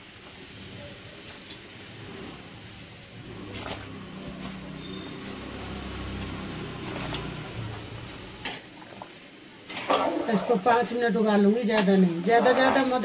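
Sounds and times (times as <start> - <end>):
water boiling hard: 0.0 - 13.0.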